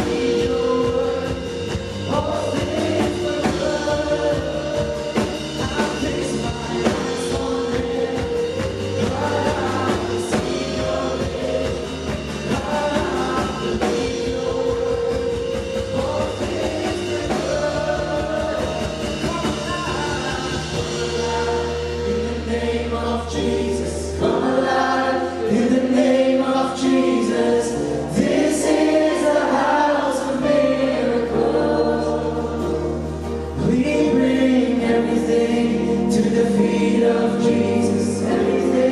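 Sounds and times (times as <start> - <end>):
congregation singing in chorus: 0.0 - 38.9
worship band playing: 0.0 - 38.9.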